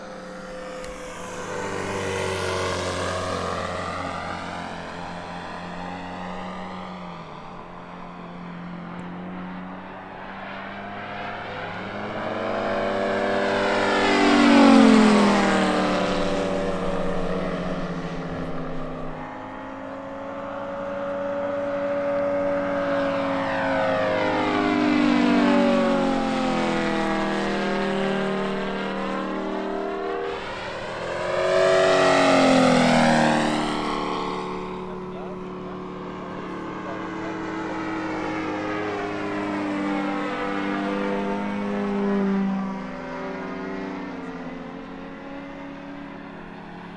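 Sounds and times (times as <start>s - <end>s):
model plane engine passing: 0.0s - 46.9s.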